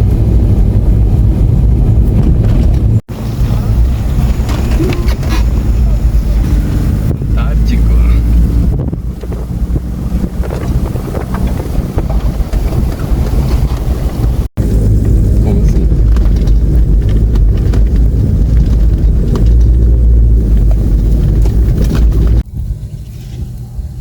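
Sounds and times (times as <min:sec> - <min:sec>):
vehicle engine humming: 0:00.0 - 0:24.0
wind buffeting microphone: 0:00.0 - 0:24.0.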